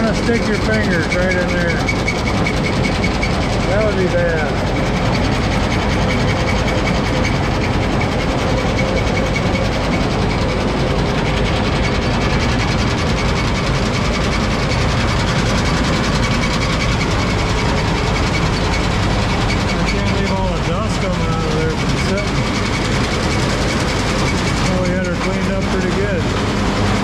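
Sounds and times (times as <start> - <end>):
engine running: 0.0 - 27.0
sickle mechanical clatter: 0.0 - 27.0.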